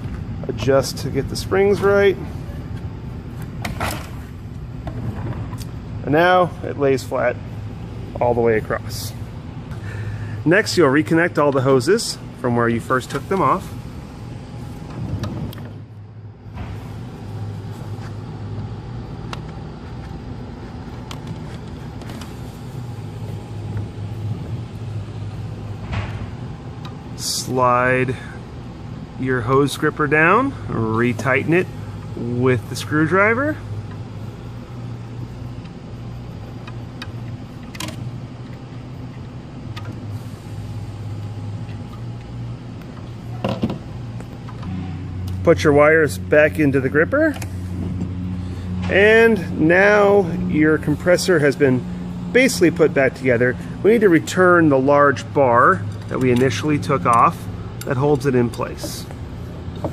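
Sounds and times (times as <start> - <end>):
compressor hum: 0.0 - 59.9.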